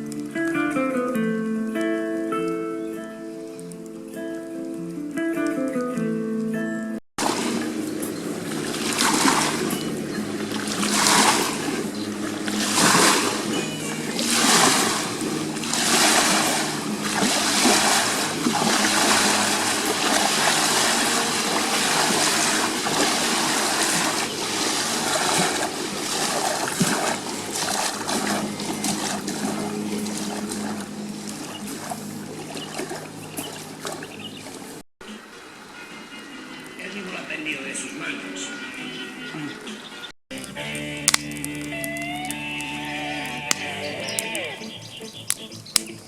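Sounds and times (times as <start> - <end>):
river water splashing: 7.2 - 46.0.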